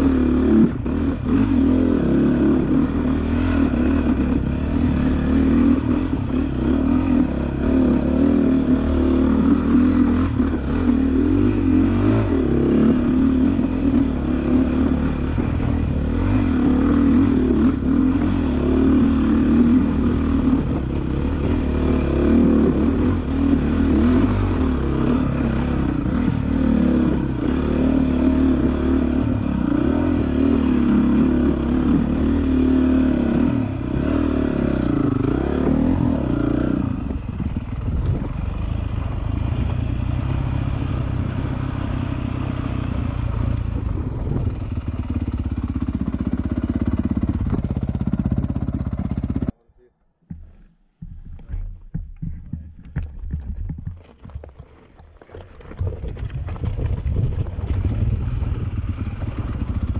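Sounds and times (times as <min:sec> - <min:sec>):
dirt bike engine revving: 0:00.0 - 0:49.5.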